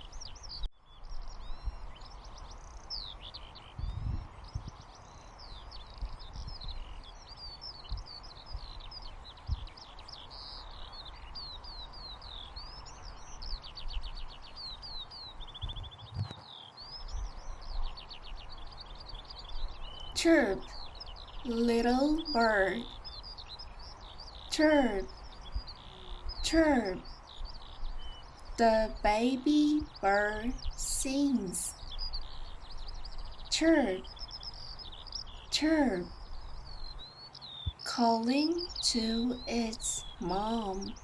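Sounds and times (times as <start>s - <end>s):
small birds chirping and trilling: 0.0s - 41.0s.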